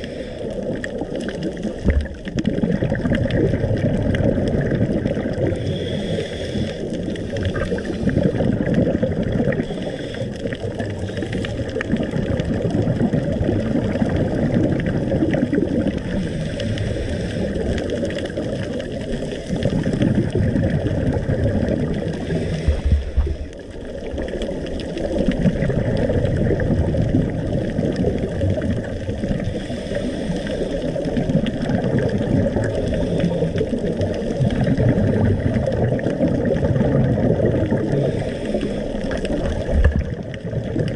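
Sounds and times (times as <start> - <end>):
underwater rumble and bubbles: 0.0 - 40.9.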